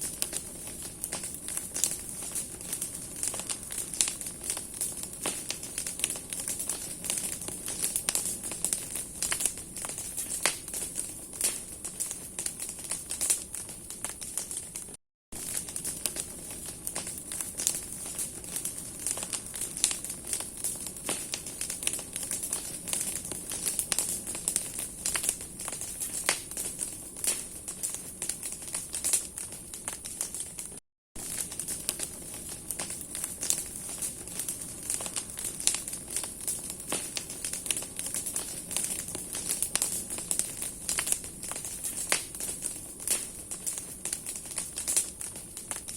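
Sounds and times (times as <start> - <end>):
bonfire crackling and popping: 0.0 - 45.9
fire hissing: 0.0 - 45.9.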